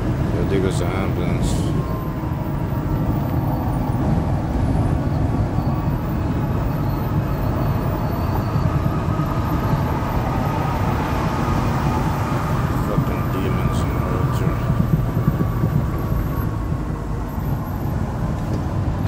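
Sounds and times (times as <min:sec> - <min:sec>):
truck engine and road drone: 0:00.0 - 0:19.0.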